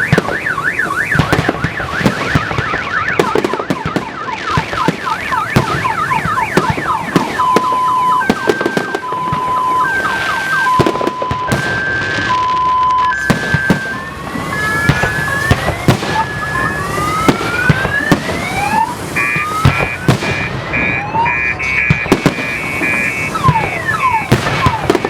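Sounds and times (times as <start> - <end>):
car alarm siren: 0.0 - 25.0
fireworks exploding: 0.0 - 25.0.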